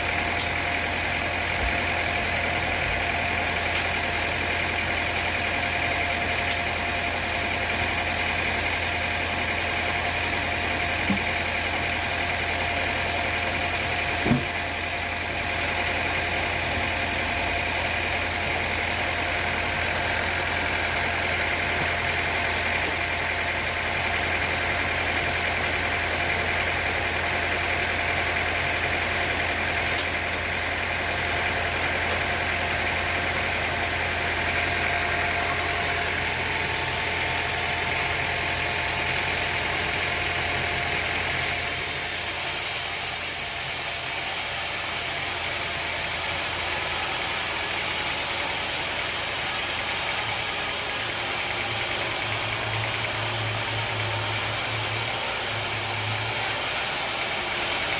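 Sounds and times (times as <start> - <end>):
sawmill machinery humming and whining: 0.0 - 57.9.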